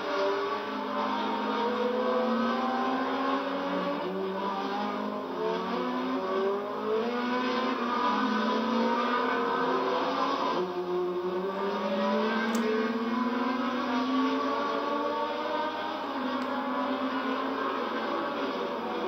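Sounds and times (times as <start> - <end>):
racing cars passing: 0.0 - 19.0.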